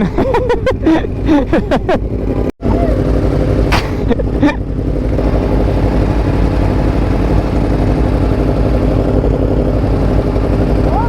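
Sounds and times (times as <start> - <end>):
motorcycle engine idling: 0.2 - 11.0.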